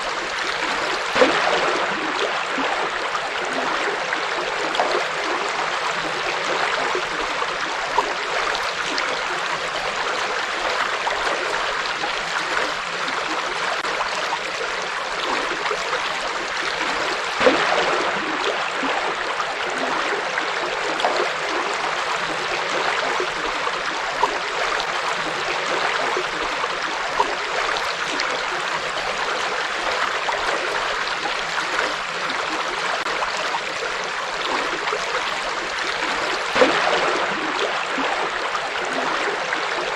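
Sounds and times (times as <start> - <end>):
river water flowing: 0.0 - 39.9
water splashing: 0.0 - 39.9.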